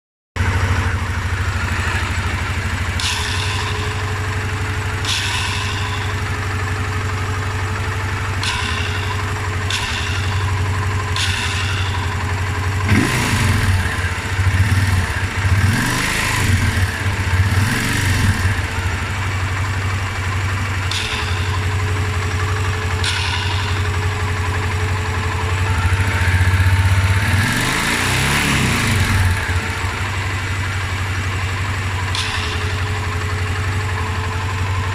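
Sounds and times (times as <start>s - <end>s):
motorcycle engine idling and revving: 0.4s - 34.9s.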